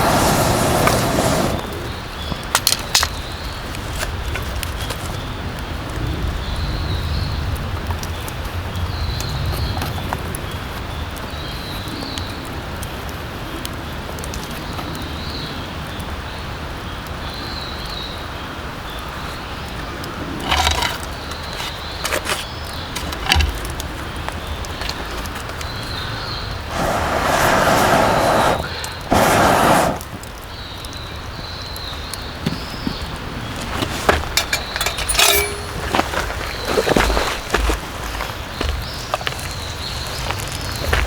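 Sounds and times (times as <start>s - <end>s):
steady hiss with crackles: 0.0s - 41.0s.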